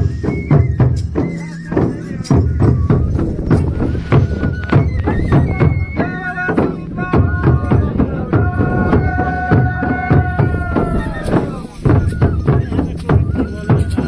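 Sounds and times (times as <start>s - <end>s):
folk dance music: 0.0s - 14.0s
steady percussion beat: 0.0s - 14.0s.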